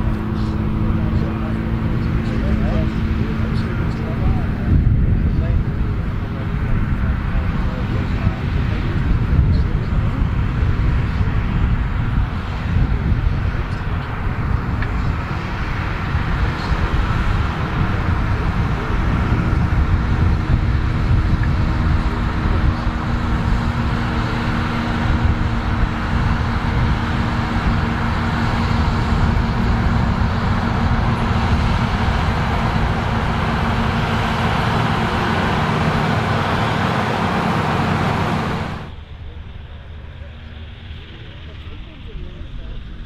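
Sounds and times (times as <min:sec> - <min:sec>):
tractor diesel engine droning: 0:00.0 - 0:43.0.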